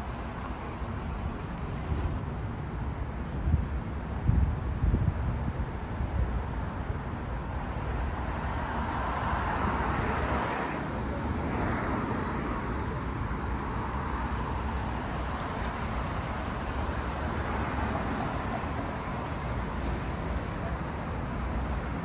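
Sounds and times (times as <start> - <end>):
hum of passing cars: 0.0 - 22.0.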